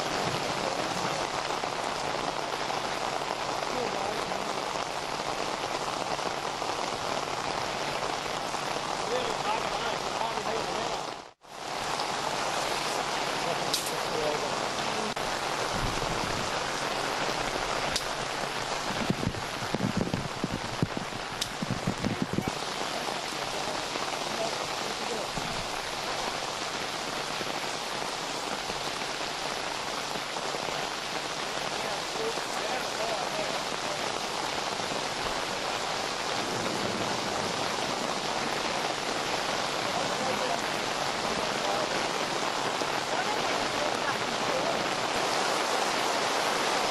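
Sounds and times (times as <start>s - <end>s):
rain and floodwater hiss: 0.0s - 46.9s.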